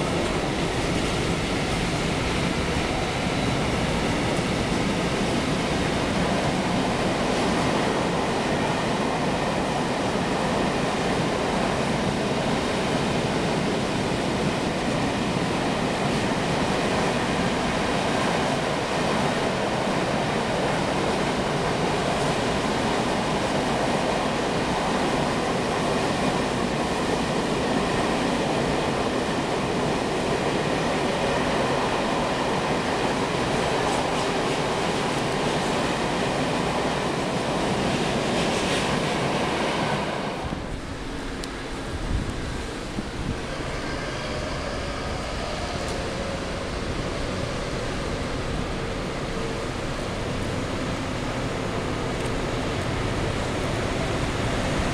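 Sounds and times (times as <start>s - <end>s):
train rumbling past: 0.0s - 54.9s.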